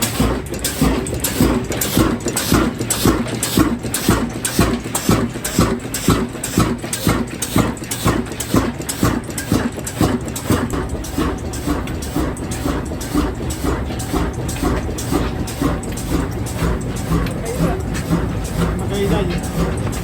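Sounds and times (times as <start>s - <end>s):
diesel engine thumping: 0.0s - 20.0s.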